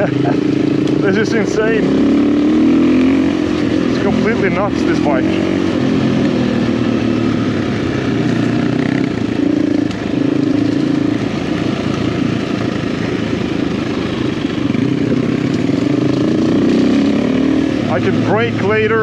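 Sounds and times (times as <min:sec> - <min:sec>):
dirt bike engine revving: 0:00.0 - 0:19.0
wind and tyre noise: 0:00.0 - 0:19.0.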